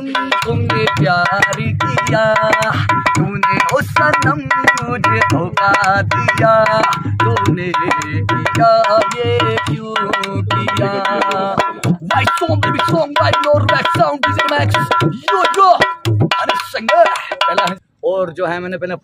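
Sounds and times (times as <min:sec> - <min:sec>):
person singing: 0:00.0 - 0:15.9
hand drum beating: 0:00.0 - 0:17.8.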